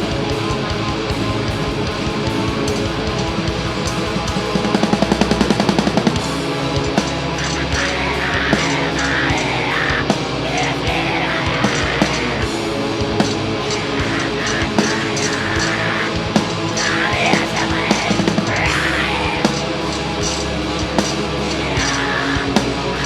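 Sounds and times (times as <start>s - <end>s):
heavy metal band playing: 0.0s - 23.0s.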